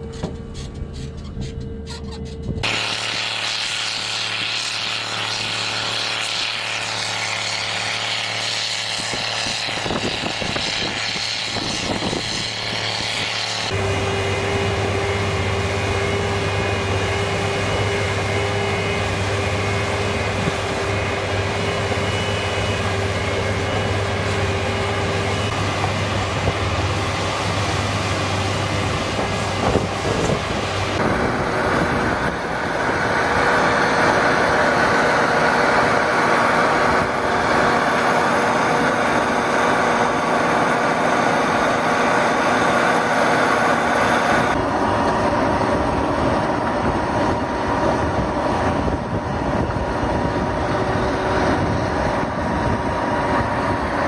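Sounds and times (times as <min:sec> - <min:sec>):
heavy machine engine drone: 0:00.0 - 0:54.0
machine whine: 0:00.0 - 0:54.0.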